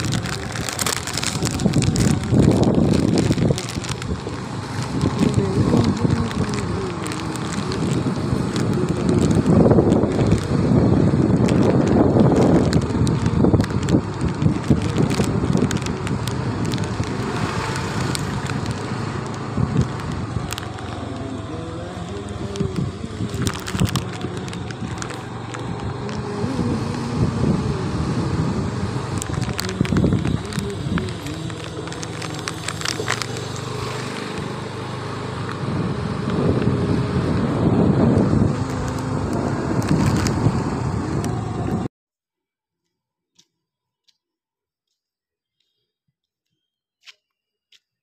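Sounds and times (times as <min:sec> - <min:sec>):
scooter engine: 0:00.0 - 0:41.9
tyre noise on road: 0:00.0 - 0:41.9
wind buffeting microphone: 0:00.0 - 0:41.9.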